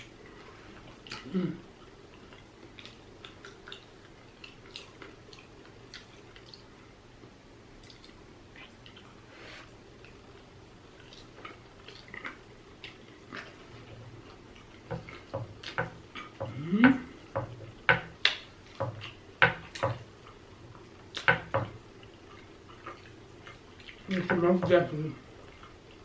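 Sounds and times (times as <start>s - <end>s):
wet chewing with lip smacks: 0.0s - 6.9s, 7.8s - 16.4s, 18.2s - 24.2s, 25.3s - 26.0s.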